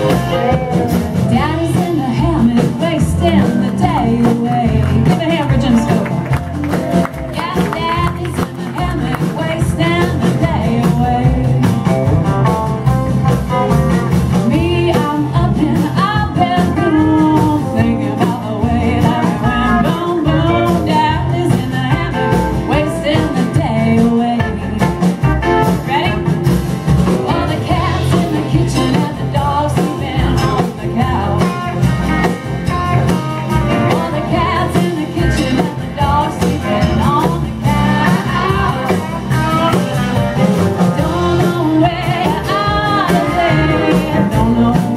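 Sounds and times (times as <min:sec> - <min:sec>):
woman singing: 0:00.0 - 0:12.0, 0:14.3 - 0:26.4, 0:27.0 - 0:40.2, 0:40.8 - 0:44.9
drum kit beat: 0:00.0 - 0:44.9
electric guitar: 0:00.0 - 0:44.9.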